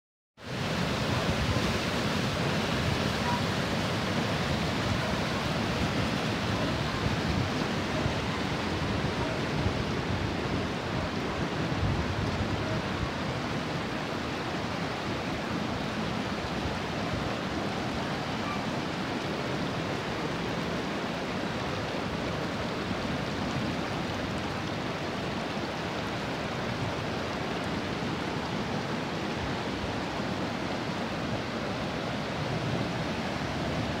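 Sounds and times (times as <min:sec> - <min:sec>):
floodwater rushing: 0:00.4 - 0:34.0.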